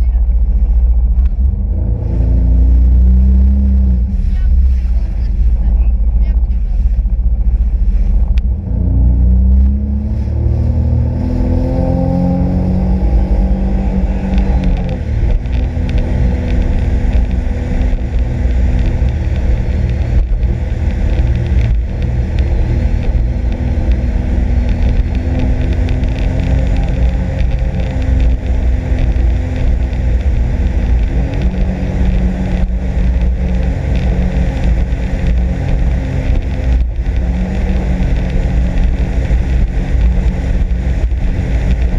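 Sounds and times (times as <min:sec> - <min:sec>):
personal watercraft engine accelerating: 0:00.0 - 0:41.9.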